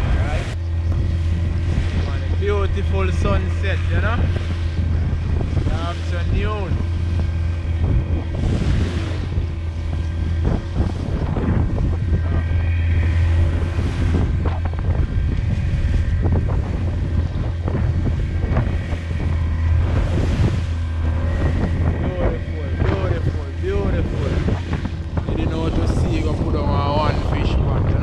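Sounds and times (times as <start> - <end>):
outboard motor running: 0.0 - 28.0
water splashing against hull: 0.0 - 28.0
wind buffeting microphone: 0.0 - 28.0.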